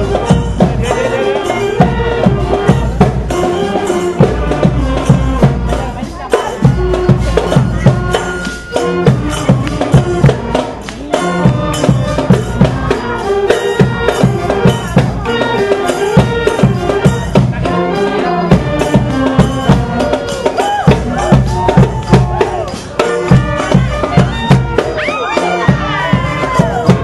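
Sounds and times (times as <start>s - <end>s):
saxophones and wind instruments: 0.0s - 27.0s
steady percussion beat: 0.0s - 27.0s.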